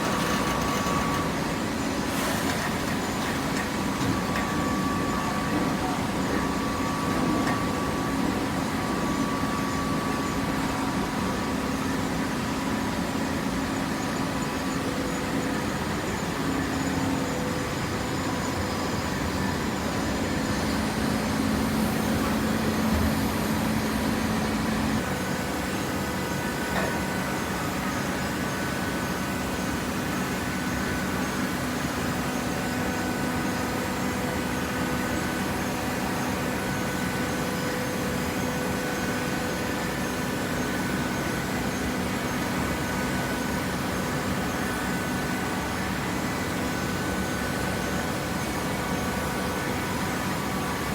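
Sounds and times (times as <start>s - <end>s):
hydraulic baler humming: 0.0s - 11.5s, 18.2s - 50.9s.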